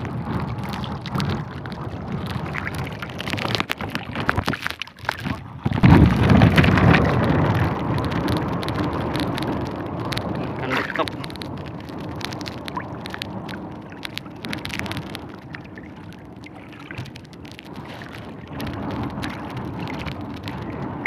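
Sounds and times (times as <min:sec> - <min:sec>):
crackling spattering hiss: 0:00.0 - 0:21.0
wind buffeting microphone: 0:00.0 - 0:21.0.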